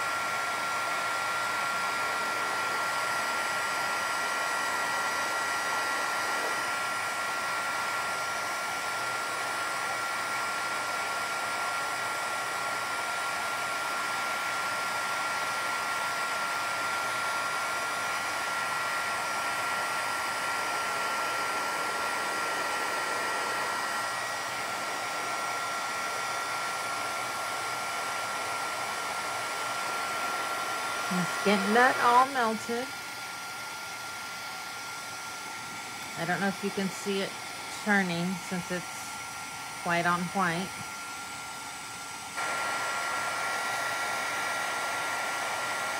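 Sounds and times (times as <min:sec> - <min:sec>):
heat tool blowing hot air: 0:00.0 - 0:45.9.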